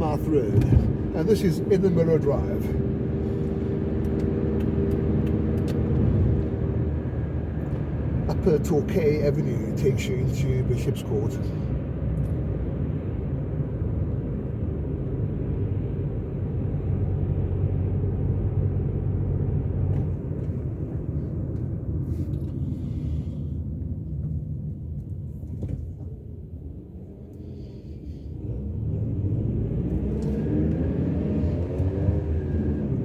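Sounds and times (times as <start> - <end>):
car engine and tyres driving: 0.0 - 33.0.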